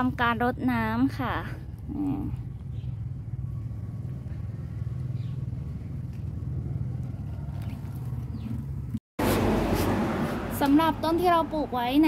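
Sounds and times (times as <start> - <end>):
low motor hum: 0.0 - 11.9.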